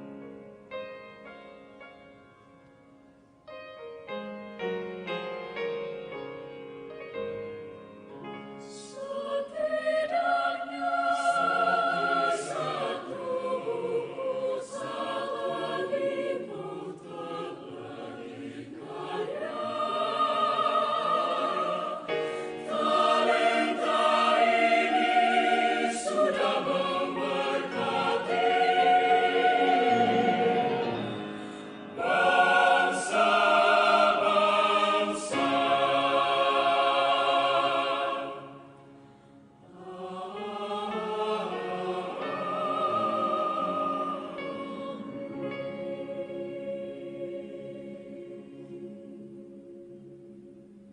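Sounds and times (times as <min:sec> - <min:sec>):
piano: 0:00.0 - 0:50.9
choir singing gospel: 0:08.6 - 0:50.9.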